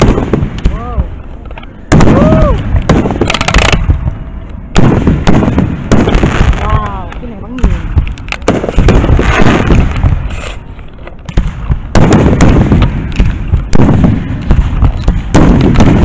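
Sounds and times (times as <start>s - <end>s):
fireworks booming: 0.0s - 1.2s, 1.8s - 10.7s, 11.3s - 16.0s
fireworks crackling: 0.0s - 16.0s.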